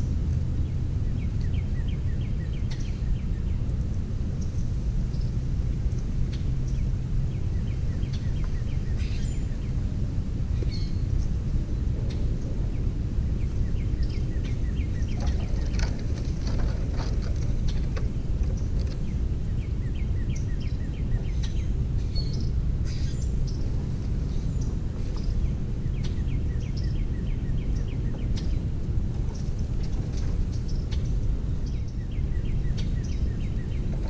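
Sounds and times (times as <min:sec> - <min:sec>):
low background rumble: 0:00.0 - 0:34.0
bird chirping: 0:04.4 - 0:09.9, 0:10.5 - 0:34.0.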